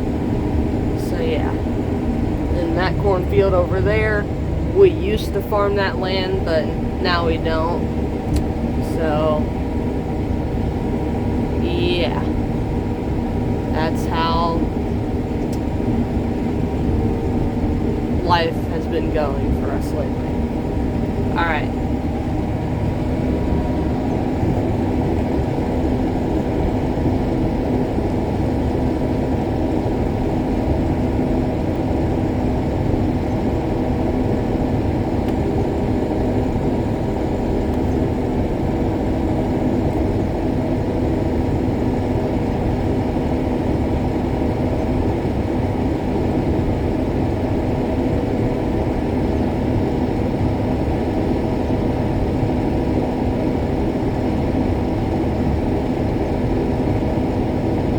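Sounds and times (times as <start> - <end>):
combine harvester machinery hum: 0.0 - 57.9.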